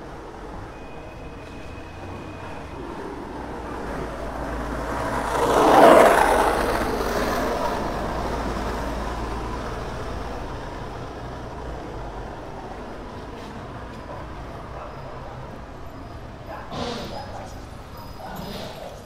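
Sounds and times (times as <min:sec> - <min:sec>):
bus driving past: 0:00.0 - 0:19.0
street traffic hum: 0:00.0 - 0:19.0.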